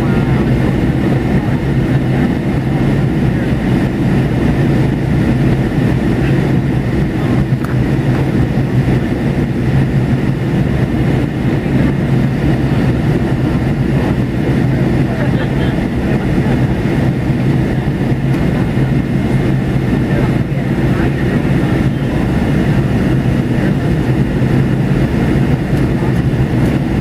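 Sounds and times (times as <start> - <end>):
jet engines droning: 0.0 - 27.0
strong low hum: 0.0 - 27.0.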